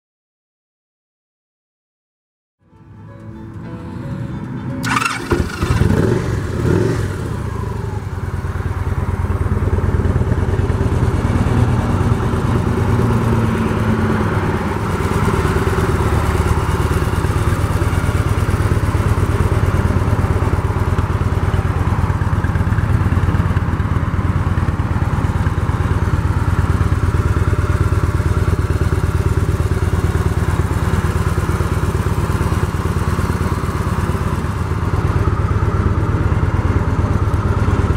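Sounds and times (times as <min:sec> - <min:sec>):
motorcycle engine idling: 0:04.8 - 0:37.9.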